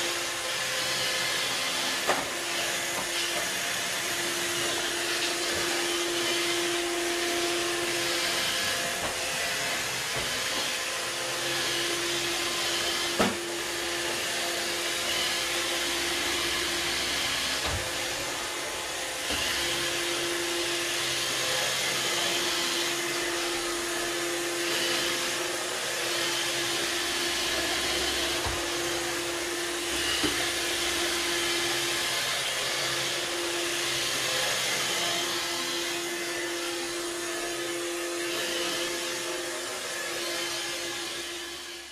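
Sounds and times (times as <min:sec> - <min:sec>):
robot vacuum whirring: 0:00.0 - 0:41.9.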